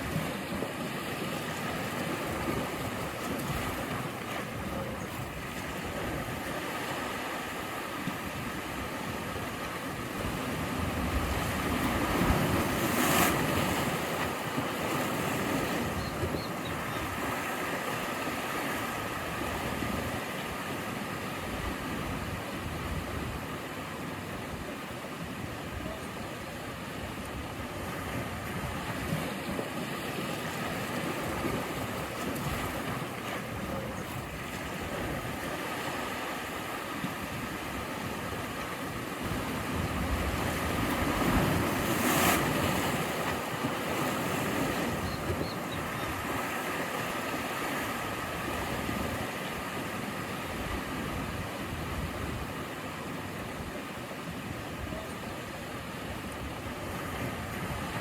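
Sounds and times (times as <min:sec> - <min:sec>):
waves washing on rocky shore: 0:00.0 - 0:58.0.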